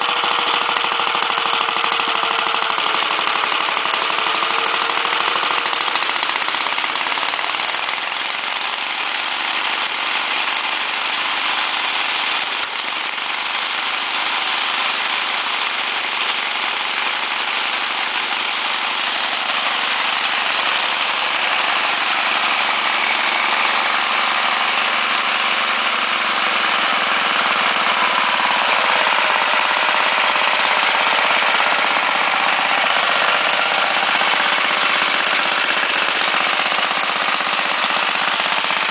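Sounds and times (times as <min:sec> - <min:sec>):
diesel engine rattling clatter: 0:00.0 - 0:38.9.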